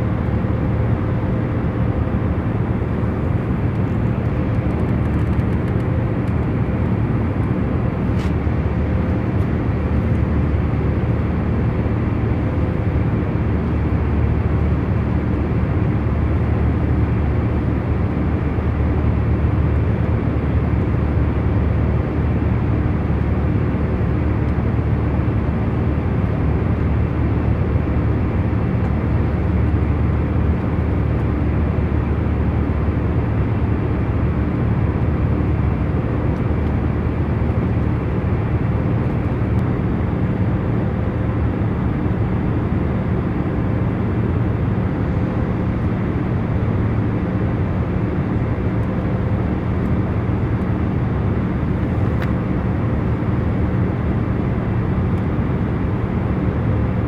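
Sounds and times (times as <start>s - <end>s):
airliner cabin hum: 0.0s - 19.1s, 27.5s - 57.0s.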